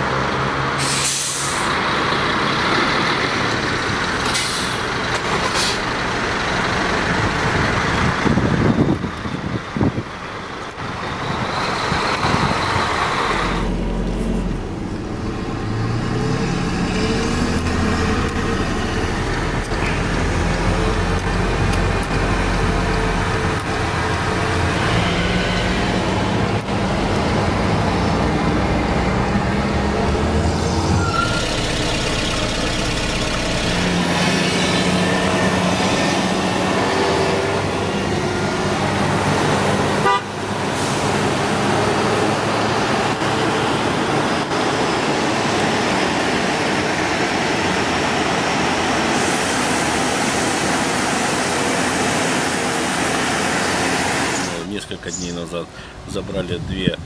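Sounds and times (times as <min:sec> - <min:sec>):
heavy vehicle engine revving: 0:00.0 - 0:54.9.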